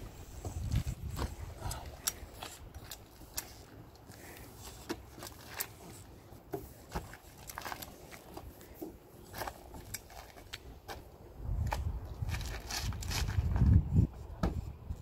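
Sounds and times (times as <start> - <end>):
slow uneven footsteps: 0.0 - 14.4.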